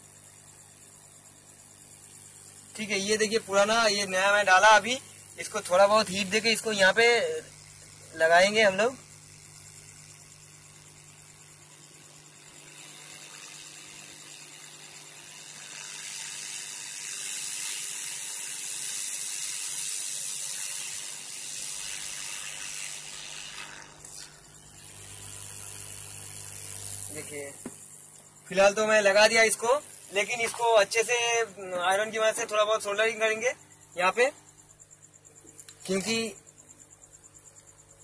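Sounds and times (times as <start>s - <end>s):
hot-air gun hissing: 0.0s - 34.4s.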